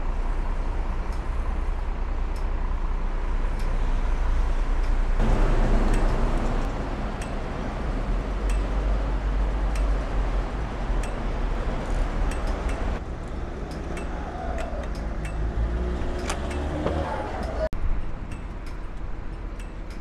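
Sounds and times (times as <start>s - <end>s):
cars on the road: 0.0s - 20.0s.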